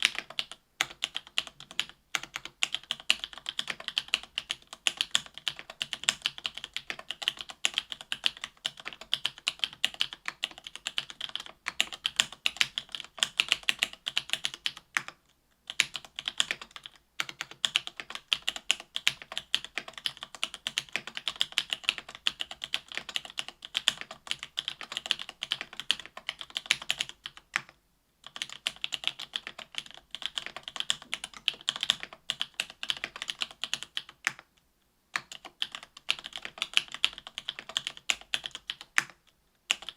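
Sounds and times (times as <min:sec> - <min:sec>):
mechanical keyboard typing: 0:00.0 - 0:34.5, 0:35.2 - 0:39.9.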